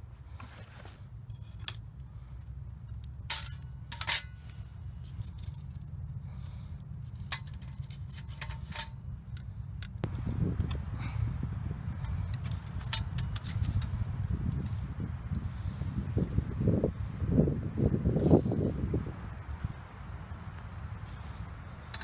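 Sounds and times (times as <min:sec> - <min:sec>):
steady low rumble: 0:01.1 - 0:22.0.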